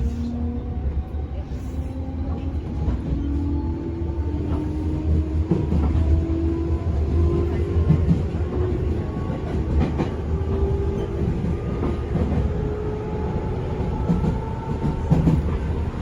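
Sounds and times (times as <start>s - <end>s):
electric train running rumble: 0.0s - 16.0s.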